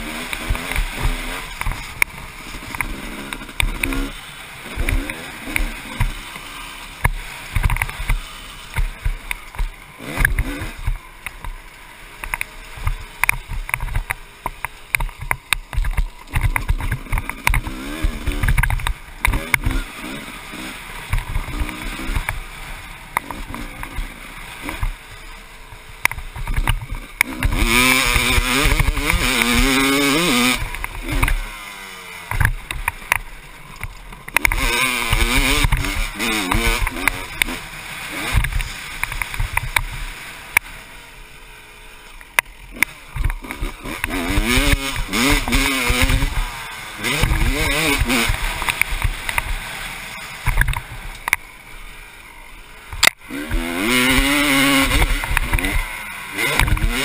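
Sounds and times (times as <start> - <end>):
motorcycle engine revving: 0.0 - 57.0
bike knocking over rough track: 0.2 - 31.6, 32.2 - 40.8, 42.2 - 51.5, 52.9 - 57.0.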